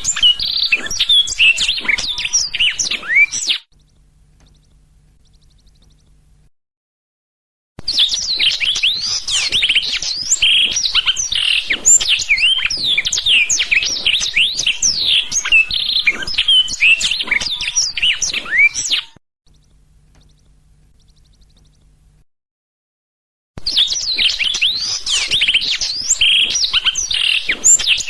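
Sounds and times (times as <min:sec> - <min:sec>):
canary singing: 0:00.0 - 0:06.4, 0:07.8 - 0:22.2, 0:23.7 - 0:28.0.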